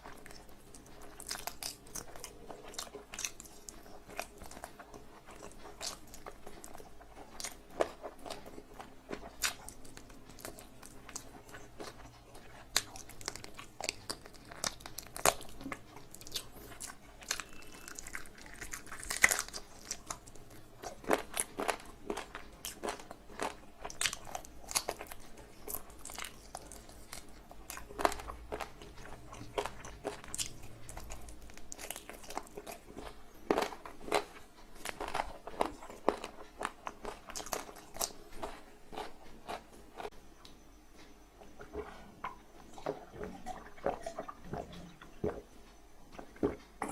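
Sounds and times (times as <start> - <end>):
person chewing food: 0.0 - 40.2, 41.4 - 46.9.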